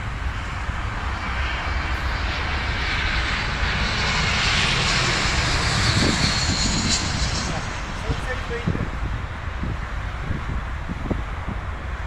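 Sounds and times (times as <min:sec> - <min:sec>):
jet airliner engine roar: 0:00.0 - 0:12.0.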